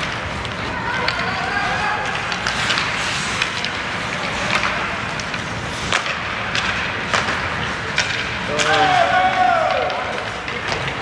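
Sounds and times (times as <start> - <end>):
hockey sticks hitting puck on ice: 0.0 - 11.0.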